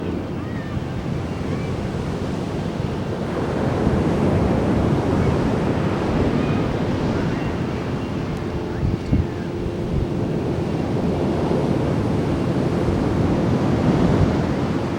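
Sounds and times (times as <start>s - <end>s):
ocean surf breaking: 0.0s - 8.6s, 9.7s - 14.9s
wind buffeting microphone: 0.0s - 14.9s.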